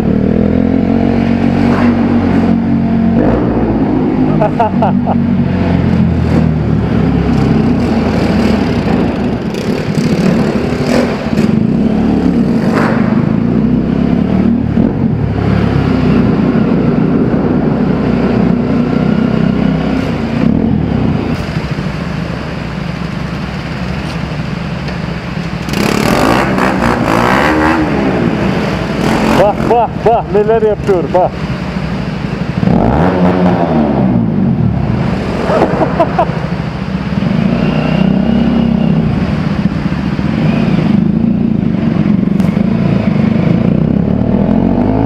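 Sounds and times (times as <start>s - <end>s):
motorcycle engine: 0.0s - 45.0s.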